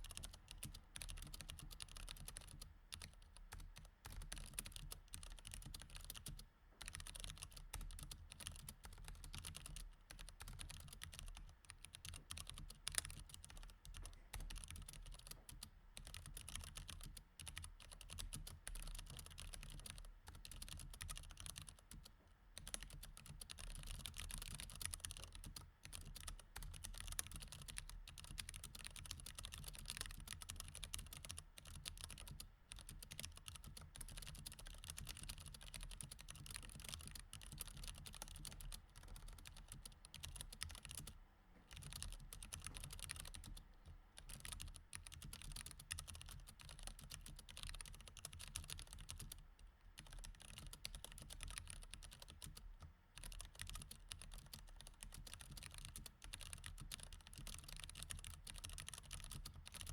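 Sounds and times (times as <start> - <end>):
mechanical keyboard typing: 0.0 - 43.6, 44.2 - 49.4, 50.0 - 59.9.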